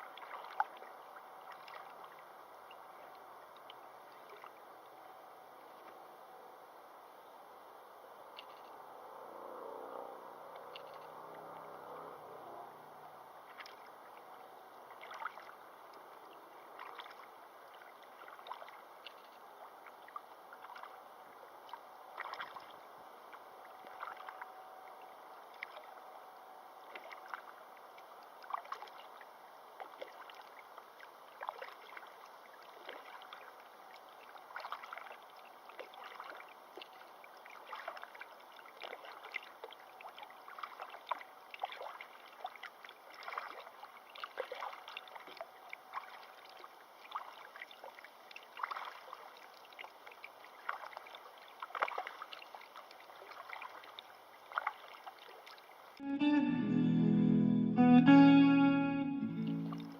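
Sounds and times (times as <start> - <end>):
river water lapping and splashing: 0.0 - 7.2, 10.3 - 56.0, 59.4 - 59.9.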